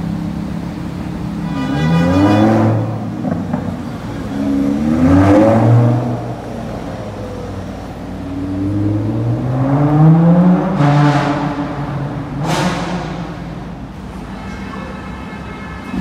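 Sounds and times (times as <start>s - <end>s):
car engine accelerating: 0.0s - 14.3s.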